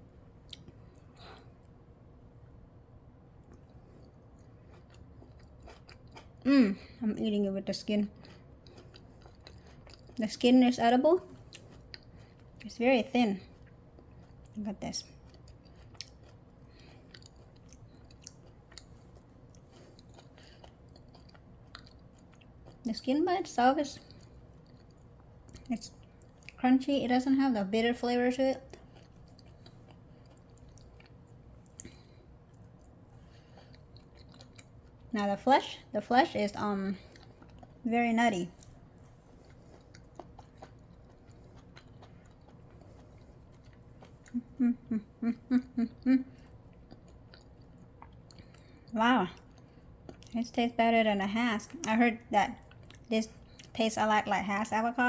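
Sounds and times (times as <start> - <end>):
chewing food: 0.2 - 1.8, 3.3 - 54.8.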